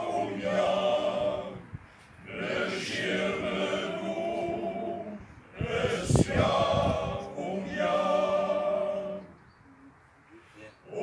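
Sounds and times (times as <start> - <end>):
men's choir singing: 0.0 - 9.4.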